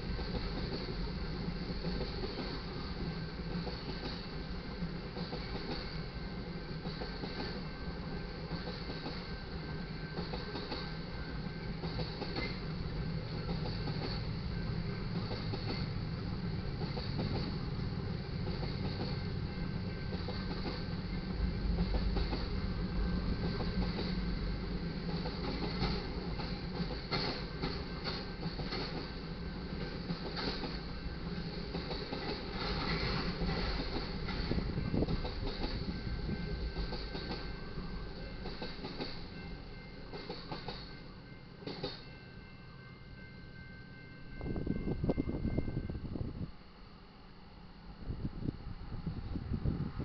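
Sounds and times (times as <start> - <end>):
freight train wheels rumbling: 0.0 - 50.0.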